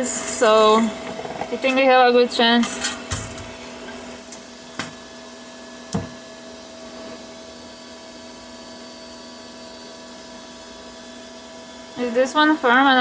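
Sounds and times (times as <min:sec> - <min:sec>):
machine electric hum: 0:00.0 - 0:13.0.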